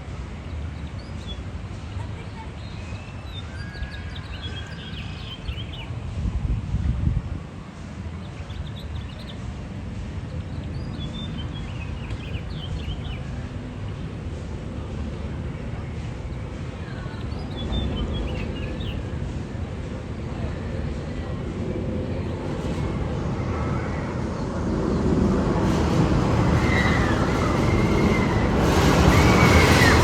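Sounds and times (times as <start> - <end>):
steady low rumble: 4.2 - 30.0.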